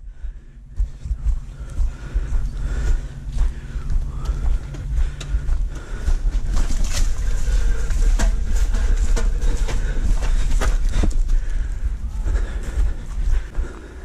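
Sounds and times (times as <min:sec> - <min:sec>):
low microphone rumble: 0:00.0 - 0:14.0
footsteps and knocks: 0:00.7 - 0:14.0.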